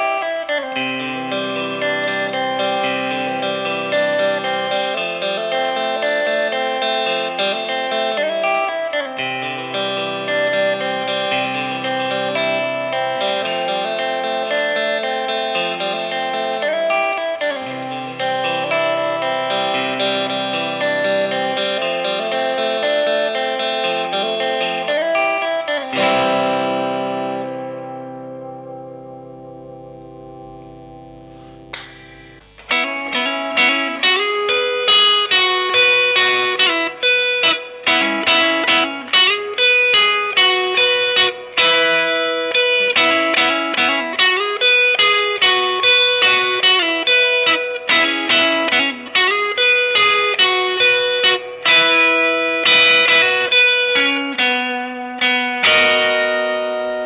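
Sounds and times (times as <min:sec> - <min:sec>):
clean electric guitar chords: 0:00.0 - 0:57.0.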